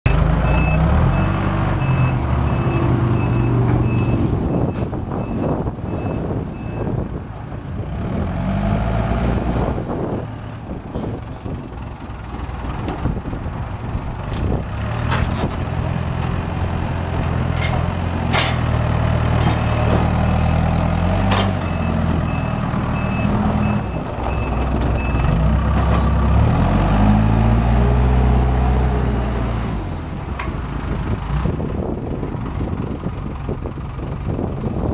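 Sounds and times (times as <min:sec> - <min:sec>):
diesel engine running under load: 0:00.1 - 0:34.9.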